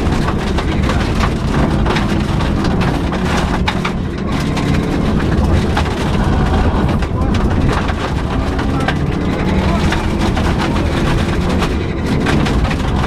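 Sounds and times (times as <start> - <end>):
car engine and road noise: 0.0 - 13.0
stones hitting car underside: 0.0 - 13.0.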